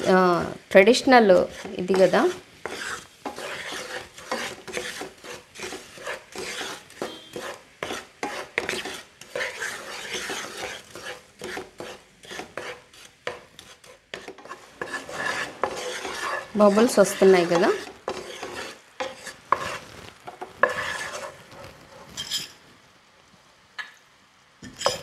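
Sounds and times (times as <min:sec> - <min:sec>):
wooden spatula scraping a pan: 0:00.0 - 0:22.6, 0:24.6 - 0:25.0.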